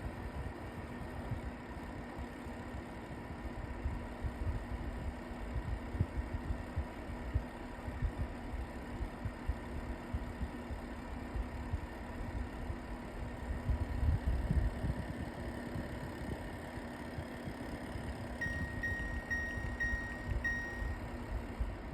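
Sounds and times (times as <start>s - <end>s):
air purifier fan hum: 0.0s - 21.9s.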